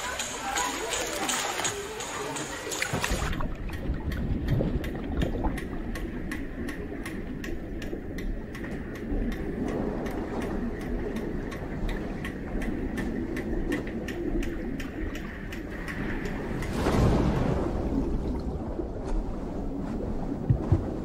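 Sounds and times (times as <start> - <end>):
sharp ticking underwater: 0.0 - 19.5
low underwater rumble: 0.0 - 21.0.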